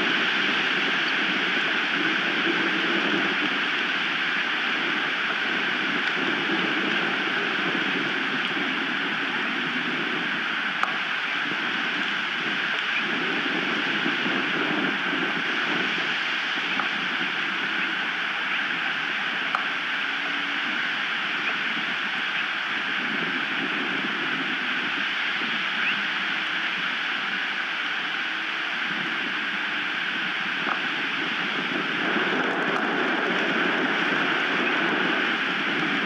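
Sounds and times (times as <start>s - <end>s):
strong wind on microphone: 0.0s - 36.0s.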